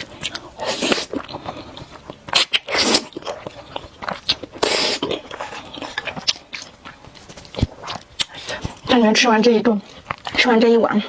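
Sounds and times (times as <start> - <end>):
noodles slurping: 0.0 - 10.7
wet chewing and smacking: 0.0 - 10.8.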